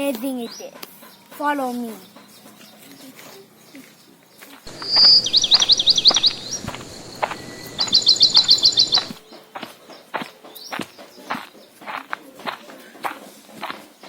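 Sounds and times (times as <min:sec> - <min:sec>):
songbird singing: 0:00.0 - 0:11.8.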